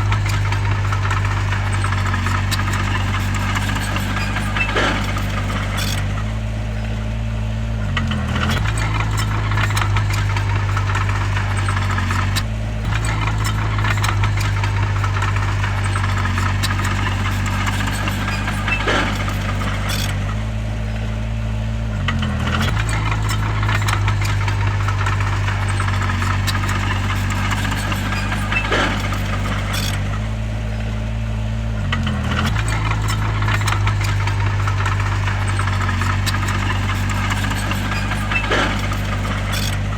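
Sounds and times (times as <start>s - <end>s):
bulldozer diesel engine running: 0.0s - 39.9s
metal clanks and rattles: 0.0s - 39.9s.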